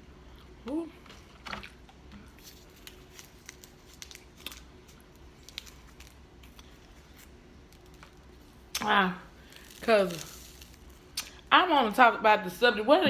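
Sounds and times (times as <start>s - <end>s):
chewing crunchy food: 0.3s - 11.5s.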